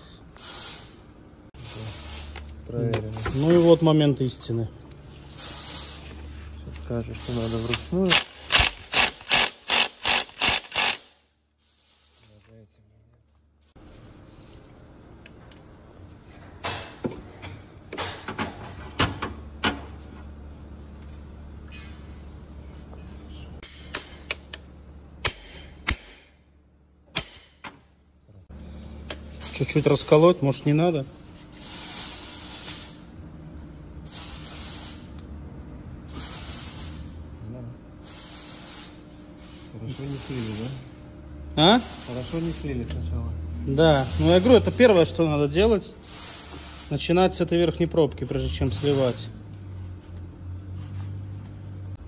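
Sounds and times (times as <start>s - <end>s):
workshop hum: 0.0s - 52.0s.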